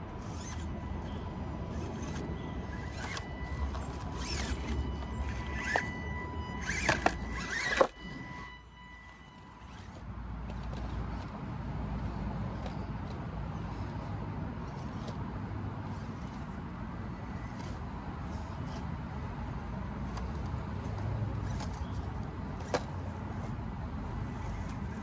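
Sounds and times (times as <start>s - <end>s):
small electric motor whining: 0.0s - 11.4s, 12.0s - 15.2s, 15.8s - 19.3s, 20.0s - 25.0s.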